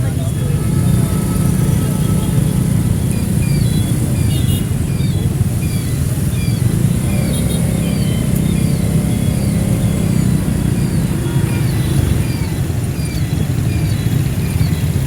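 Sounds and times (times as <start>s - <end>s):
motorbike engine rumble: 0.0s - 15.0s.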